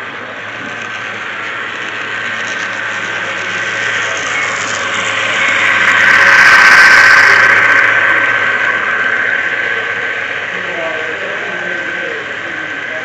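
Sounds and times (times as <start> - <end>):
model train running with whine: 0.0 - 13.0.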